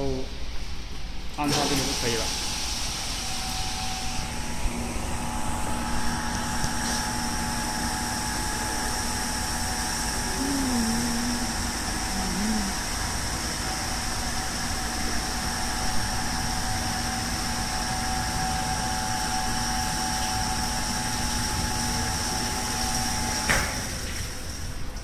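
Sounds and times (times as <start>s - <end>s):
machine drone with high whine: 0.0s - 24.5s.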